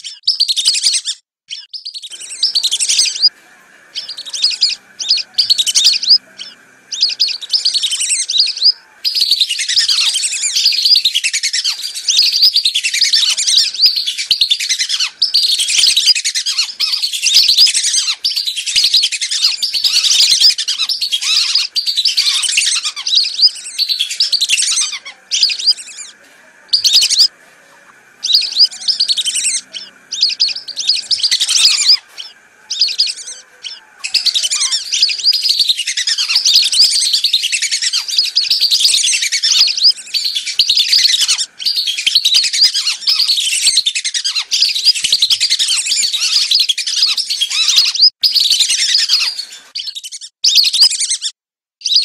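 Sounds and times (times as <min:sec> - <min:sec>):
whistling ducks calling: 0:00.0 - 0:52.0.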